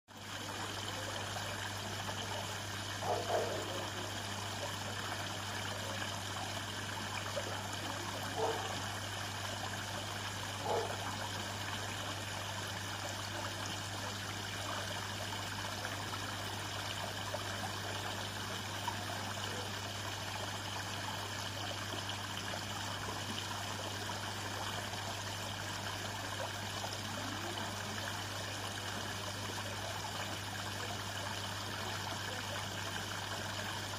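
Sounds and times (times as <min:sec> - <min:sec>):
waterfall trickling into pond: 0:00.1 - 0:33.9.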